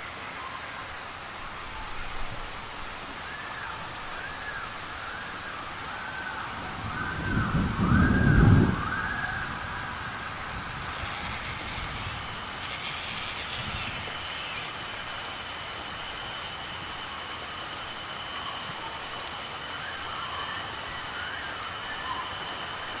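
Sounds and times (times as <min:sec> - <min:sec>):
crickets trilling: 0:00.0 - 0:23.0
rain falling on foliage: 0:00.0 - 0:23.0.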